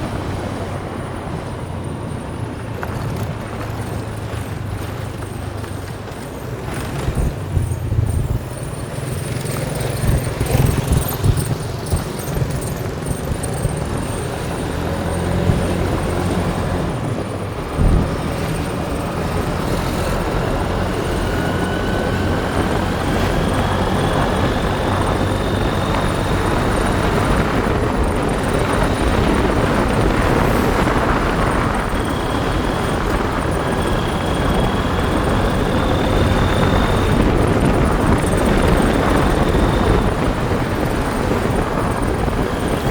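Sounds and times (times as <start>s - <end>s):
motorbike engine running: 0.0s - 42.9s
wind rushing over microphone: 0.0s - 42.9s.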